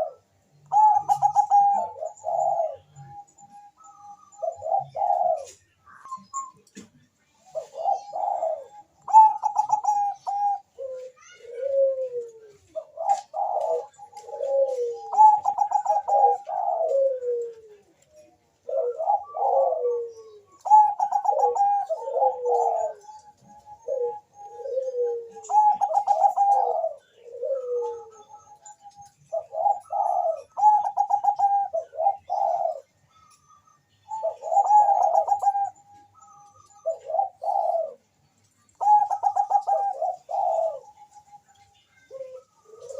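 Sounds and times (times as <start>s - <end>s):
dove cooing in trilled phrases: 0.0s - 42.9s.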